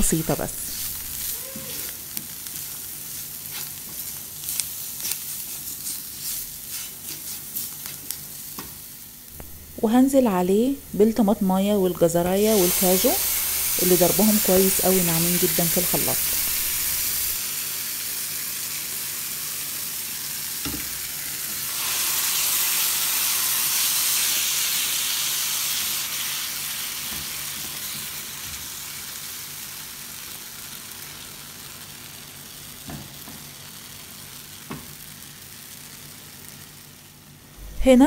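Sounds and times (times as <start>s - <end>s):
sauce sizzling in a frying pan: 0.0s - 37.6s.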